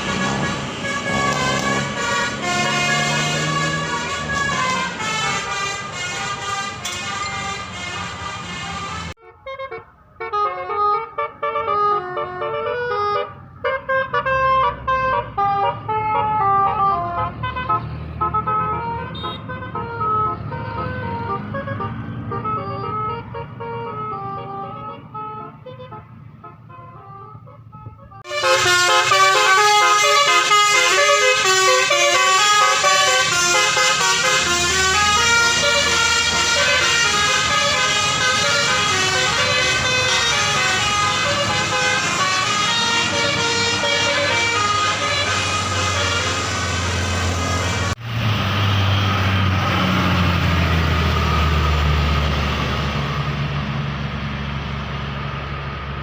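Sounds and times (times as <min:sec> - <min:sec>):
horns playing a multi-note tune: 0:00.0 - 0:47.0.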